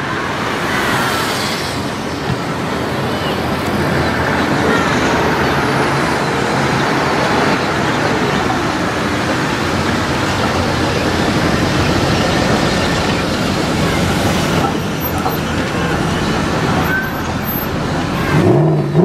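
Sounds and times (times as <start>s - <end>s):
traffic: 0.0s - 19.0s
tram passing: 0.0s - 19.0s.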